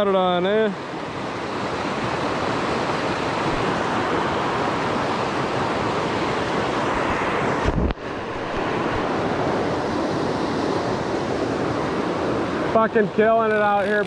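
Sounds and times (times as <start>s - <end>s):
river rapids rushing: 0.3s - 14.0s.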